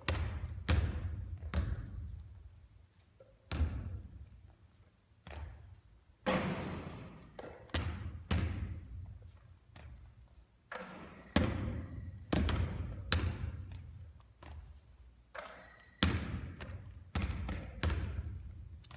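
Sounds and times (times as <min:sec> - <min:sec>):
basketball bouncing on hard court: 0:00.0 - 0:02.3, 0:03.5 - 0:04.3, 0:05.2 - 0:10.1, 0:10.7 - 0:14.7, 0:15.3 - 0:18.9.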